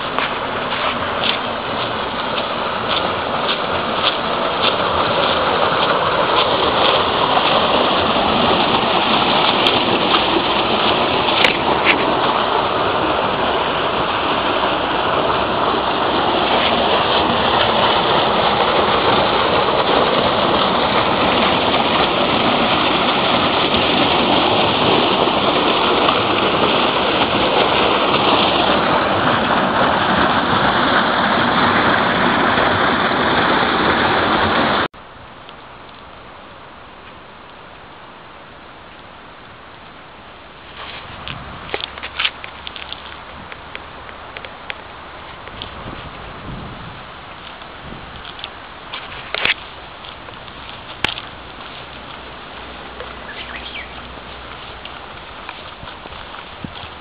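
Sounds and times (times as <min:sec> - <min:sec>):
water gushing from pipes: 0:00.0 - 0:34.9, 0:37.7 - 0:57.0.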